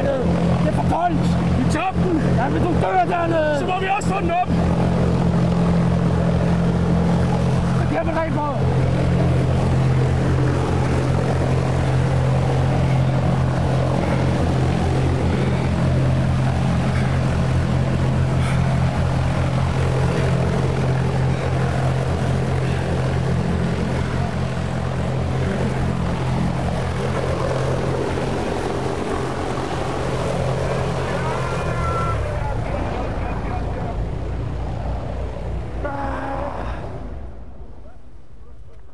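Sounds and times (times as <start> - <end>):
wind machine fan droning: 0.0 - 38.9.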